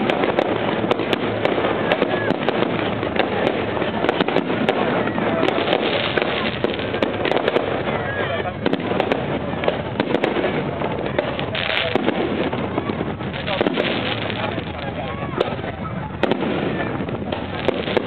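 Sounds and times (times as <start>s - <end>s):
crowd voices: 0.0s - 18.0s
fireworks crackling and banging: 0.0s - 18.0s.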